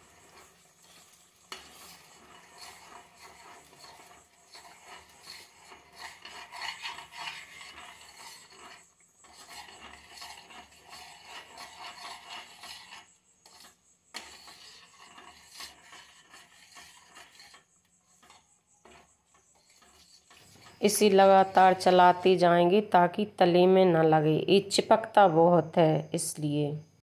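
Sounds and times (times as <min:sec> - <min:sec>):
metal spoon scraping a pot: 0:00.0 - 0:23.1.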